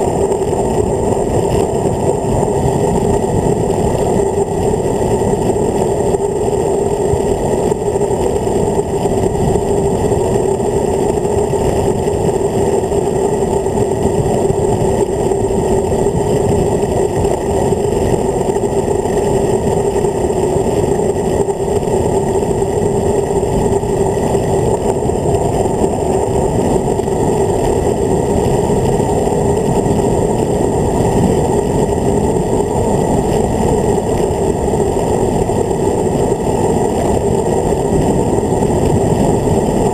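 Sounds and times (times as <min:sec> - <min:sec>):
low drone: 0:00.0 - 0:39.9
road noise: 0:00.0 - 0:39.9
wind rush: 0:00.0 - 0:39.9.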